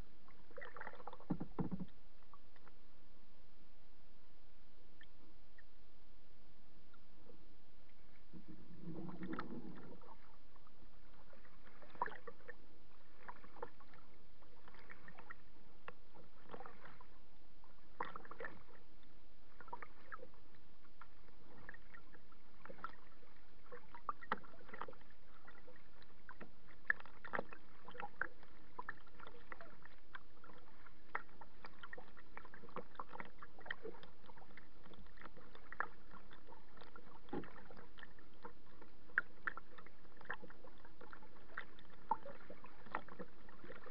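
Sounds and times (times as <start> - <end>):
water splashing against kayak: 0.3 - 2.7, 7.9 - 18.9, 19.5 - 43.9.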